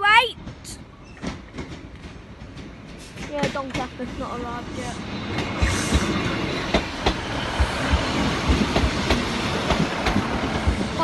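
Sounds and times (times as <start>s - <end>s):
train rumbling past: 0.0s - 11.0s
wheels clacking over rail joints: 0.4s - 11.0s.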